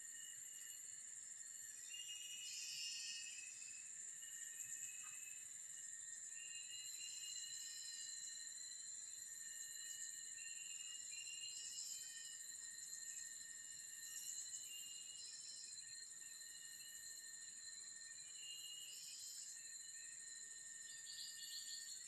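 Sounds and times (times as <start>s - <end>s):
crickets trilling: 0.0s - 22.0s
short insect chirps: 0.0s - 22.0s.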